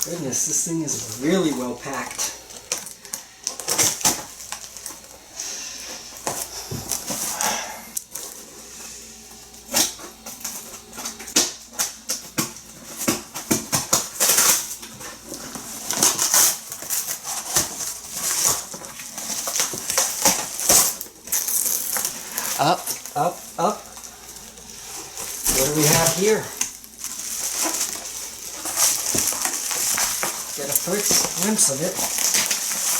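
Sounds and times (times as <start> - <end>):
packing material crinkling: 0.0 - 32.9.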